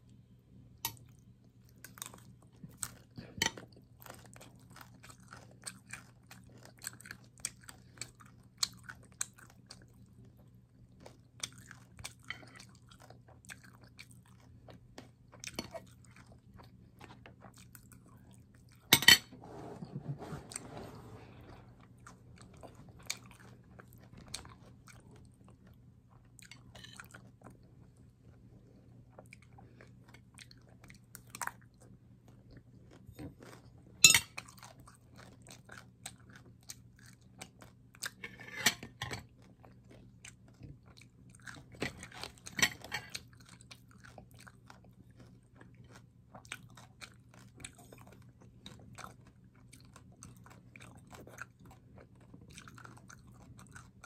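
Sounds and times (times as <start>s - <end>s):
chewing and smacking: 0.9s - 18.9s, 21.4s - 54.0s.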